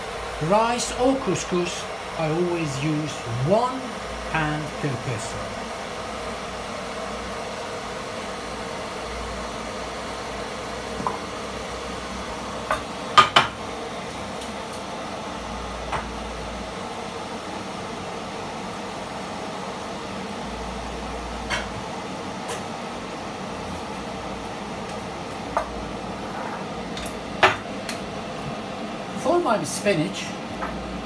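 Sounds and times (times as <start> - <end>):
electric kettle rushing: 0.0 - 31.0.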